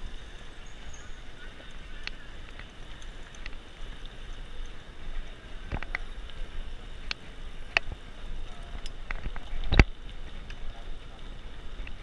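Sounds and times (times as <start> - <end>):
bicycle tyre noise on road: 0.0 - 12.0.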